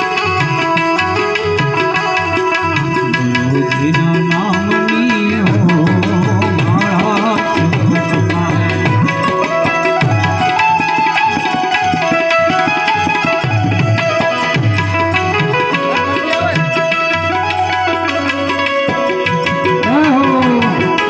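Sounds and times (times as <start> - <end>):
hand drums: 0.0 - 21.0
harmonium melody: 0.0 - 21.0.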